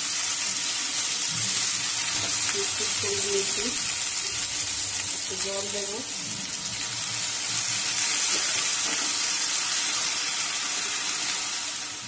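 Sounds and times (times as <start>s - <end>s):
oil sizzling and hissing: 0.0s - 12.0s.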